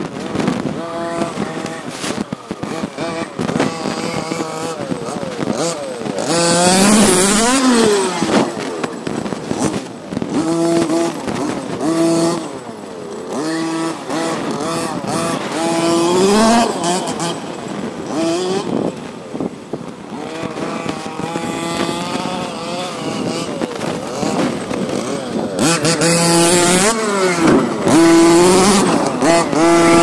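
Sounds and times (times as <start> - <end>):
two-stroke engine revving: 0.0 - 30.0.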